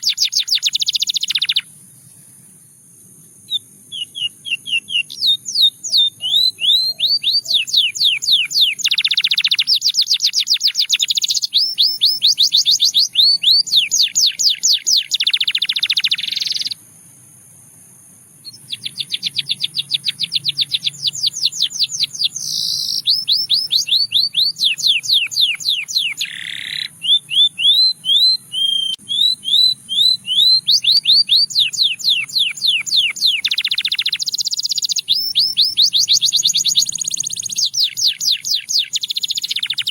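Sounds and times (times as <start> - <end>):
canary singing trills: 0.0 - 2.5, 3.3 - 16.9, 18.4 - 39.9.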